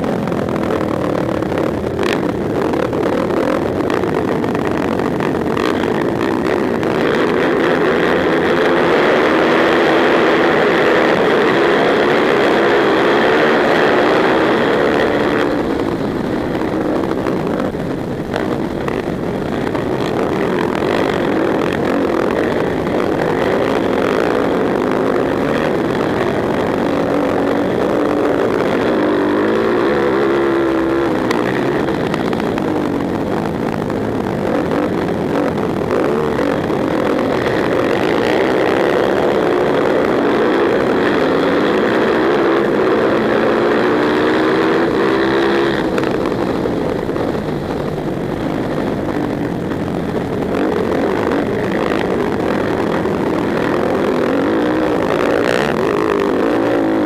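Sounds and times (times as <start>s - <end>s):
quad engines revving: 0.0s - 57.0s.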